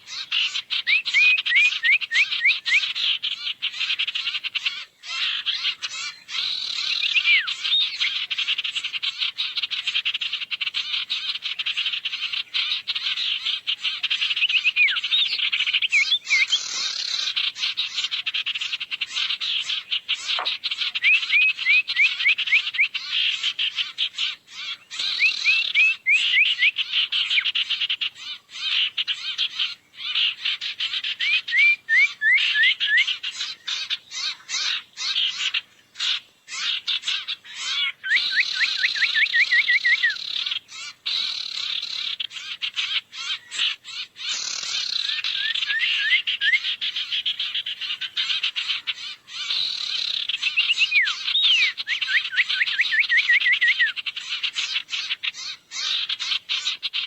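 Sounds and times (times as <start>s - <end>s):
birds chattering and chirping: 0.0s - 57.0s.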